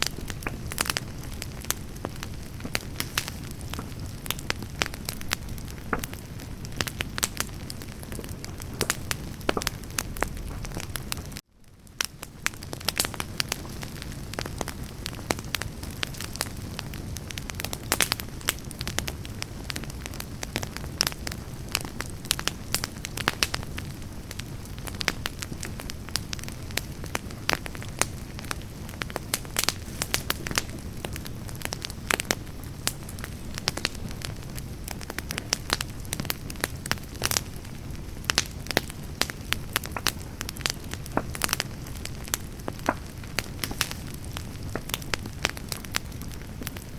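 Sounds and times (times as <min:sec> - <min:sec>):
campfire flames rushing: 0:00.0 - 0:46.9
firewood popping and crackling: 0:00.0 - 0:46.9.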